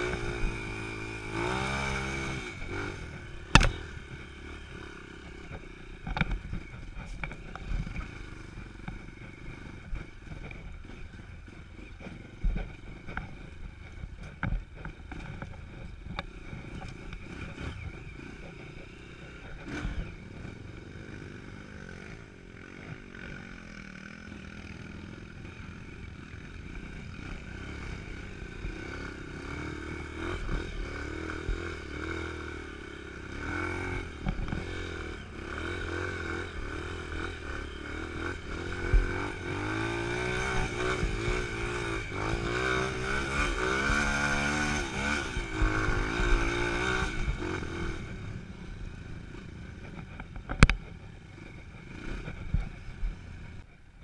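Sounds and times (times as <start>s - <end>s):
dirt bike engine revving: 0.0s - 13.1s, 16.6s - 48.5s
knocks and rattles from bike: 0.0s - 48.4s, 49.2s - 53.7s.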